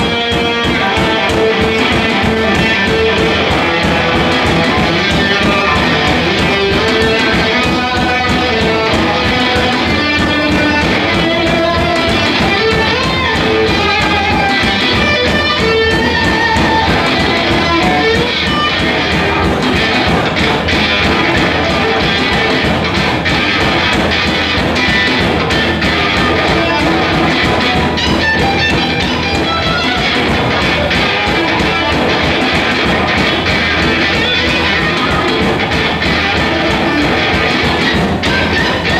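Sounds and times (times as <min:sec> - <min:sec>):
electric guitar: 0:00.0 - 0:38.9
rock band playing: 0:00.0 - 0:38.9.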